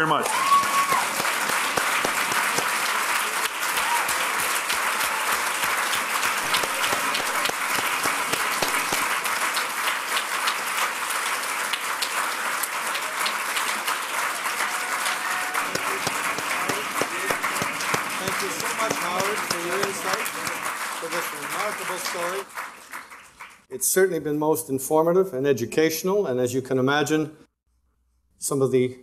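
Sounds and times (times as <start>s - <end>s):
audience applauding: 0.0s - 23.7s.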